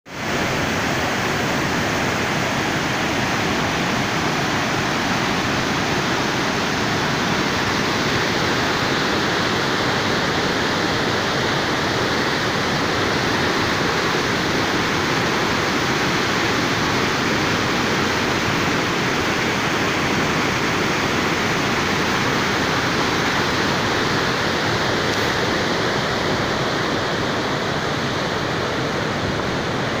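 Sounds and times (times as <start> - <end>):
water rushing over weir: 0.1 - 30.0.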